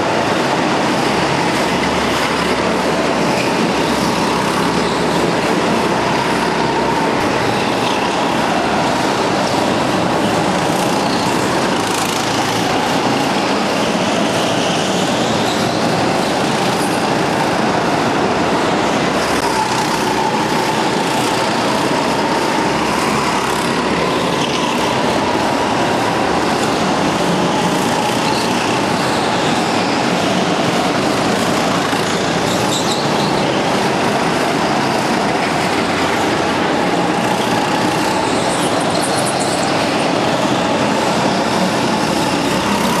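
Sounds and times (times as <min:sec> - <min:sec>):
go-kart engines at high revs: 0:00.0 - 0:43.0.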